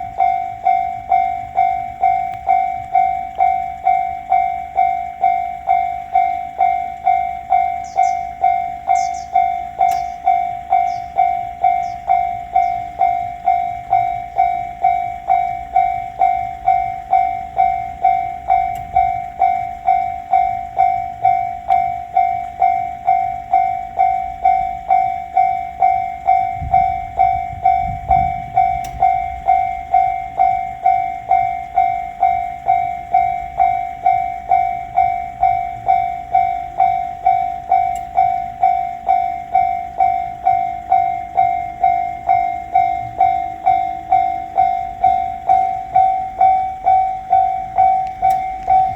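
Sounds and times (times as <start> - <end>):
railroad crossing bell ringing: 0.0 - 48.9.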